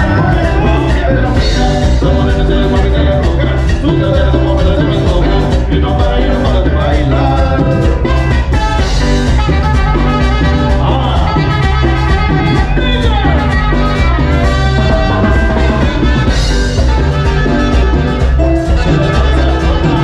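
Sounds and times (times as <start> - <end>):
drums: 0.0 - 20.0
heavy bass: 0.0 - 20.0
live band playing: 0.0 - 20.0.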